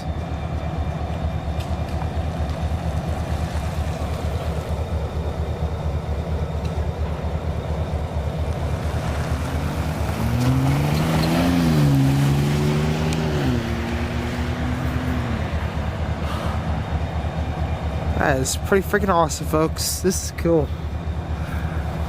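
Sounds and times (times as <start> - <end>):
diesel locomotives throbbing: 0.0 - 22.0
droning engine tone: 0.0 - 22.0.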